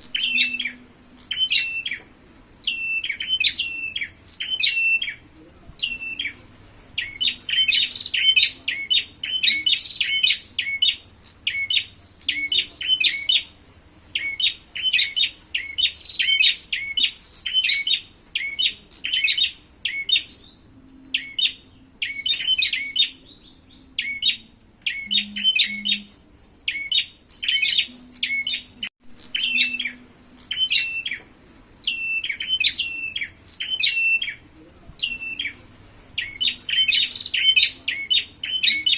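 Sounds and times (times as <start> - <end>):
bird rapid high chirps: 0.0 - 5.2, 5.8 - 34.4, 35.0 - 38.9.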